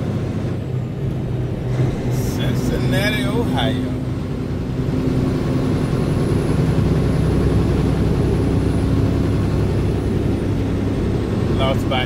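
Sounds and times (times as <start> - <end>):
truck diesel engine and tyres drone: 0.0 - 12.0.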